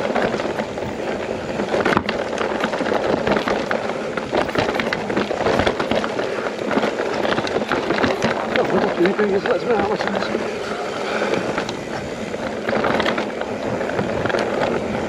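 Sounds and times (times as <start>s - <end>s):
bike rattling and knocking: 0.0s - 15.0s
bike tyres on rough trail: 0.0s - 15.0s.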